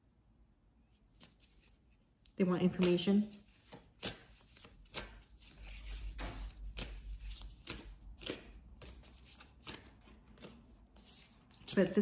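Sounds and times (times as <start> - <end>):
cards being shuffled: 1.0 - 12.0.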